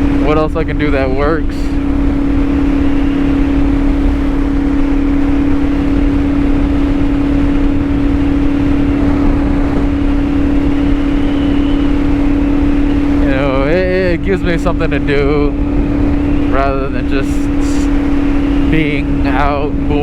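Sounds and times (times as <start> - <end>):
motorcycle engine running steadily: 0.0 - 20.0
wind noise over microphone: 0.0 - 20.0.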